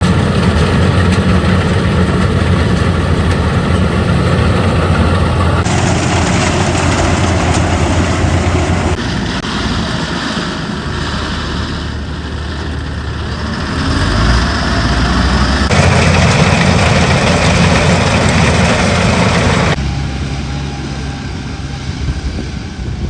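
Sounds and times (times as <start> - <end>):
combine harvester engine hum: 0.0 - 23.0.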